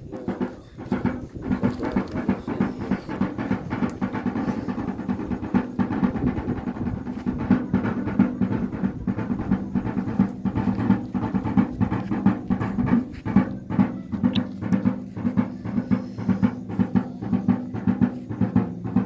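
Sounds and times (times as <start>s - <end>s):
drum beaten with sticks: 0.0s - 19.0s.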